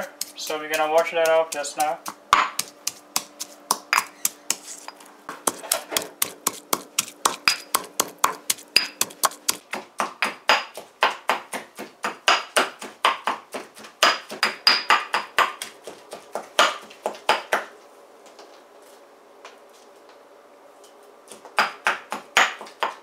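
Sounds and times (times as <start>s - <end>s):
pestle pounding in stone mortar: 0.0s - 17.7s, 21.3s - 23.0s.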